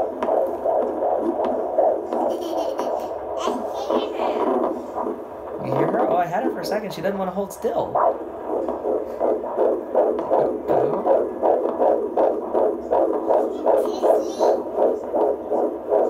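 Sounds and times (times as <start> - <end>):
whooshing fetal heartbeat: 0.0 - 16.0.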